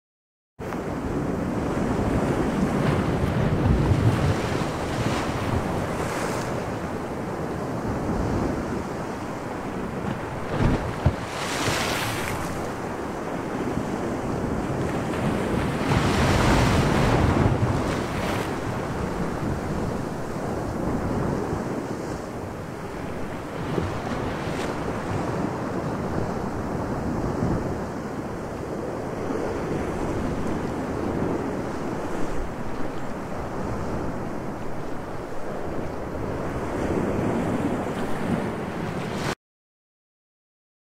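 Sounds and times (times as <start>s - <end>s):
sea waves: 0.6s - 39.4s
wind: 0.6s - 39.4s.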